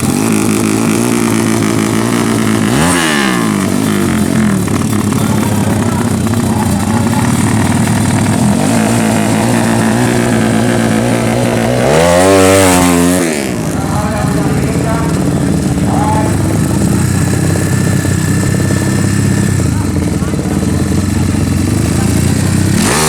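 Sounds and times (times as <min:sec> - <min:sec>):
motorcycle engines running: 0:00.0 - 0:23.0.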